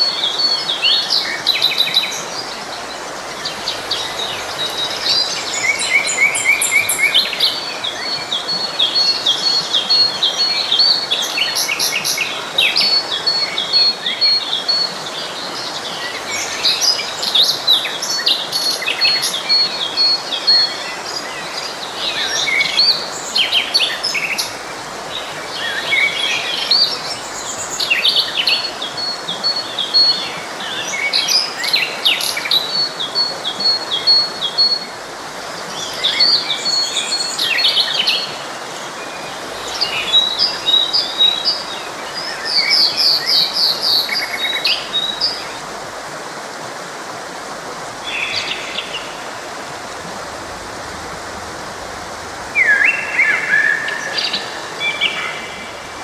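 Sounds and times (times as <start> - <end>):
birds singing and chirping: 0.0 - 35.0, 35.6 - 45.8
forest stream flowing: 0.0 - 56.0.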